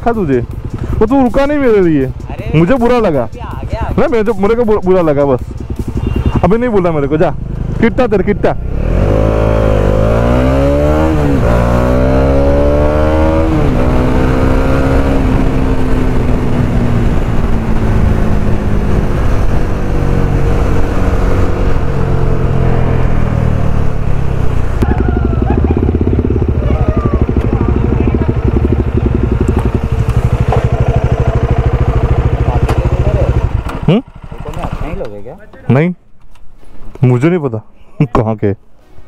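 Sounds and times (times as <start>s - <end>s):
motorcycle engine: 0.0s - 35.8s.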